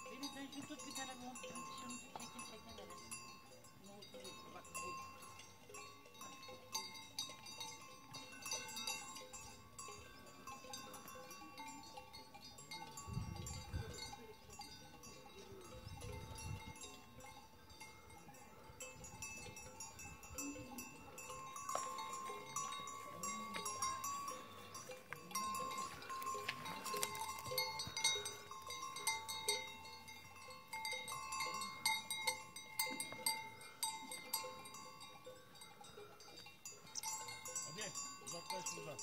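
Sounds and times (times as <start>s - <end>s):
cowbells clanking: 0.0s - 39.0s.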